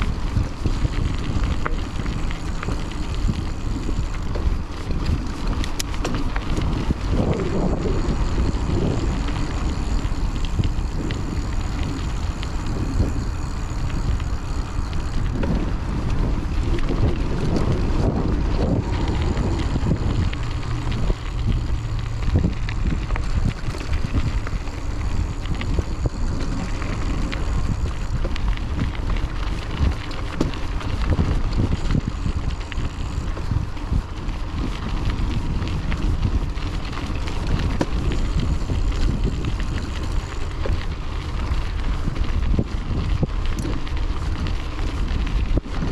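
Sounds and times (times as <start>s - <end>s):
bike clicks and rattles: 0.0s - 45.9s
mountain bike rumbling on trail: 0.0s - 45.9s
wind buffeting microphone: 0.0s - 45.9s.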